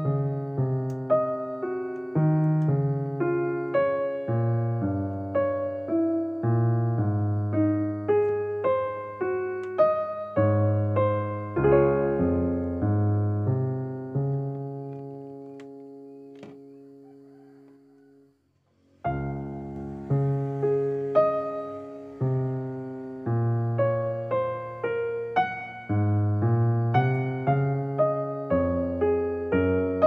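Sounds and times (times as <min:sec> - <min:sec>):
slow piano melody: 0:00.0 - 0:30.0.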